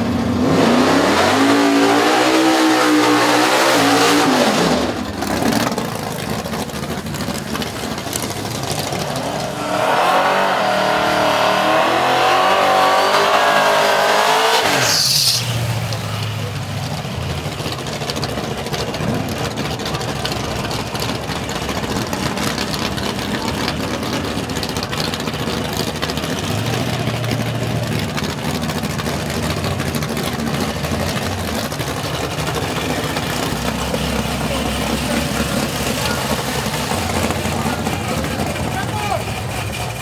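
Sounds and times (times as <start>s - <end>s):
car engines idling: 0.0s - 40.0s
crowd noise: 0.0s - 40.0s.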